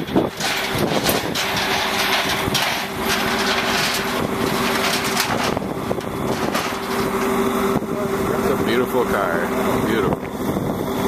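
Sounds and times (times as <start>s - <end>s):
broad rushing noise: 0.0s - 11.0s
vehicle engine humming: 0.0s - 11.0s.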